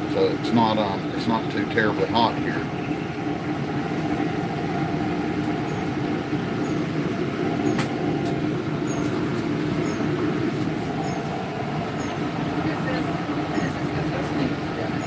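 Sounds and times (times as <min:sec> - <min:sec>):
air handler and fans droning: 0:00.0 - 0:15.0.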